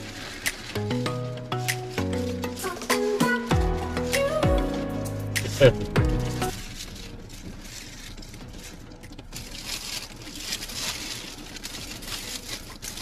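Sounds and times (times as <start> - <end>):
paper wrapping crinkling: 0.0 - 13.0
plastic bag rustling: 0.0 - 13.0.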